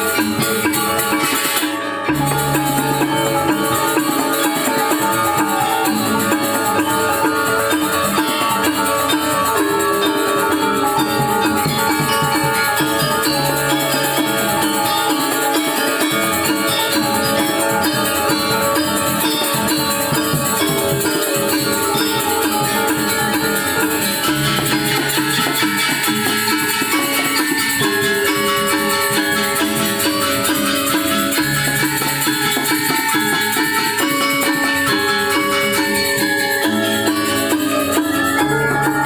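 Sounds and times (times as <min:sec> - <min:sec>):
gamelan ensemble playing: 0:00.0 - 0:39.0.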